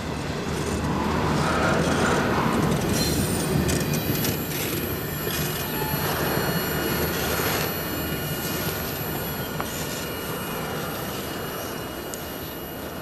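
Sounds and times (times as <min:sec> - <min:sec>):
train wheels rumbling on rails: 0:00.0 - 0:13.0
high wheel squeals: 0:01.0 - 0:13.0.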